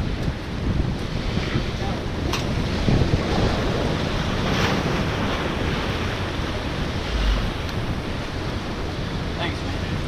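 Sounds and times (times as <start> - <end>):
ocean surf on rocks: 0.0 - 10.0
wind buffeting microphone: 0.0 - 10.0.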